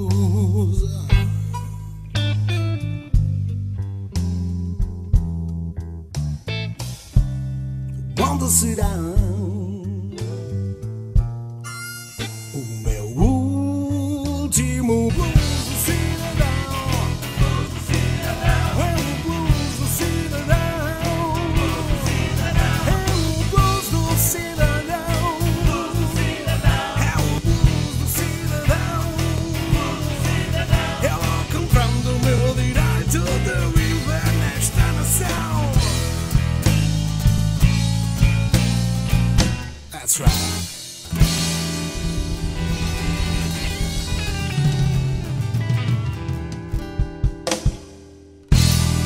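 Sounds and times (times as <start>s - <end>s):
blues-rock instrumental music: 0.0s - 49.0s.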